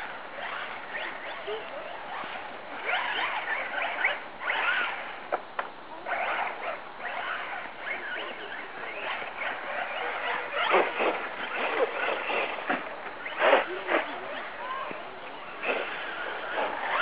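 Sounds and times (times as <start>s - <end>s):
electric toy car motors whining: 0.0s - 5.3s, 6.0s - 17.0s.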